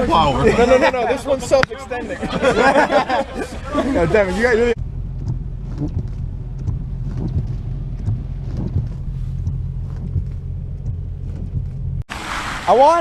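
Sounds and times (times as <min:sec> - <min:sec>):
car engine idling: 0:00.0 - 0:12.4.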